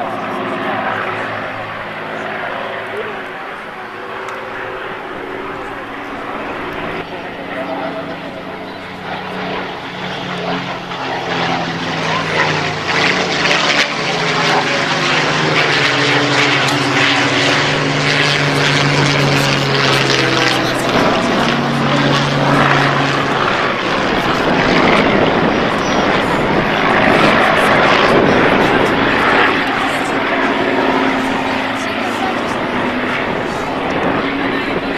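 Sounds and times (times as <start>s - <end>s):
propeller aircraft engines droning: 0.0s - 34.9s.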